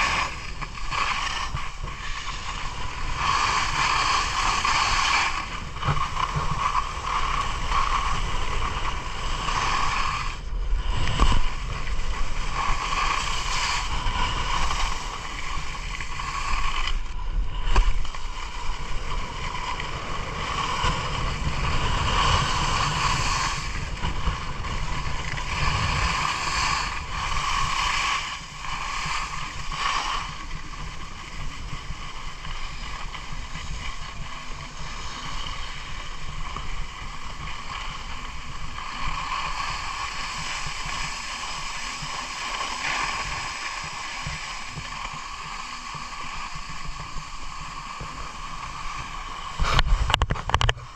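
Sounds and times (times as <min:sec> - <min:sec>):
skis scraping over snow: 0:00.0 - 0:50.9
wind rumbling on microphone: 0:00.0 - 0:50.9.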